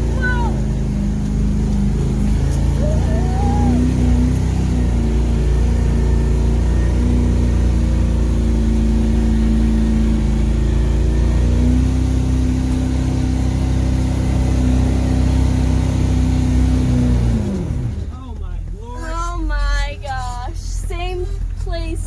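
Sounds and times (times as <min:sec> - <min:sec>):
diesel truck engine straining: 0:00.0 - 0:22.0.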